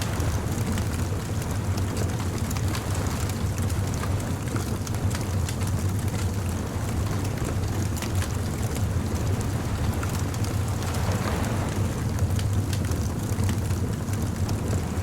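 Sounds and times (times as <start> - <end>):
beach surf: 0.0 - 4.7, 6.8 - 15.0
bonfire crackling and popping: 0.0 - 15.0
wind: 0.0 - 15.0.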